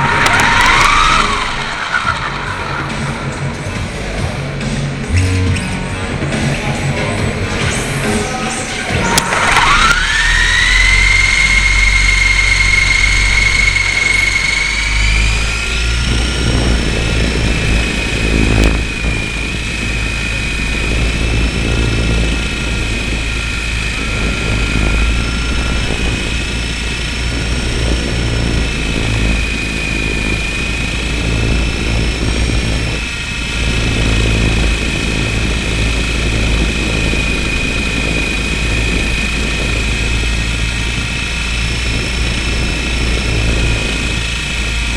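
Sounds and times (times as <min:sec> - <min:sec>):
rc helicopter motor whine: 0:00.0 - 0:05.0, 0:08.5 - 0:44.9.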